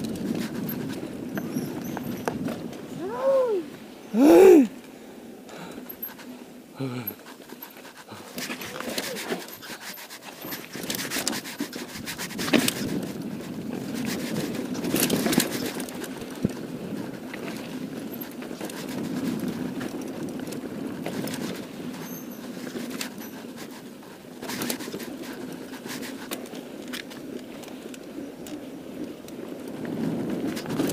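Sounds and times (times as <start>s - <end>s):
bike knocking and rattling: 0.0s - 3.0s, 7.2s - 30.9s.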